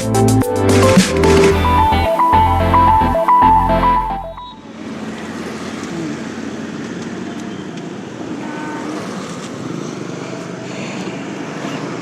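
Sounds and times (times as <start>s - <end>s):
tyre road noise: 0.7s - 12.0s
traffic: 1.1s - 12.0s.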